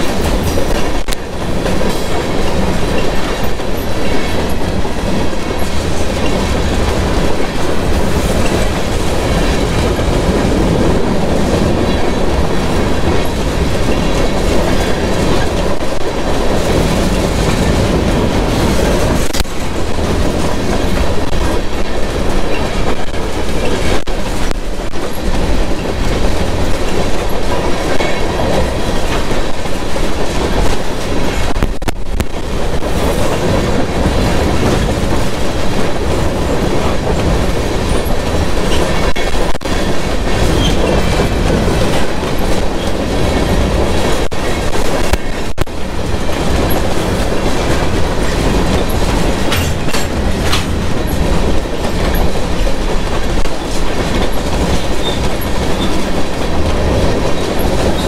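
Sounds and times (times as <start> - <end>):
freight train rumbling past: 0.0 - 58.0
train wheels clacking on rail joints: 0.0 - 58.0.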